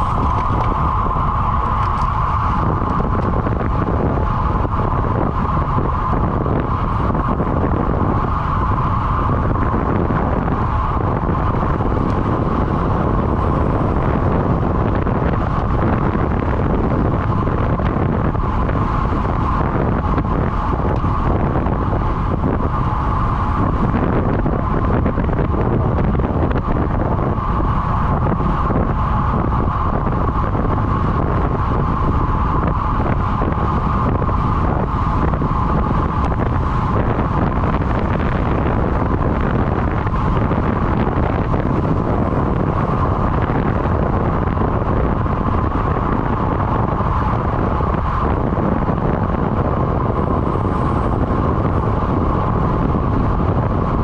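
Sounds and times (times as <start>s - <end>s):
continuous steady whine: 0.0s - 54.0s
wind buffeting microphone: 0.0s - 54.0s.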